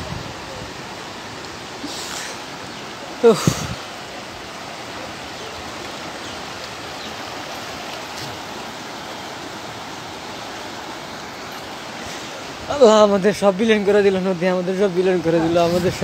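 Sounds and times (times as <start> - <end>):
flood water rushing: 0.0 - 16.0.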